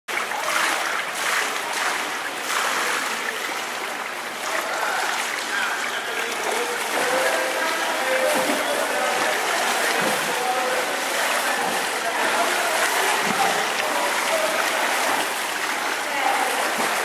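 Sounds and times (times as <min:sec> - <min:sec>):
water splashing from swimmer: 0:00.1 - 0:17.0.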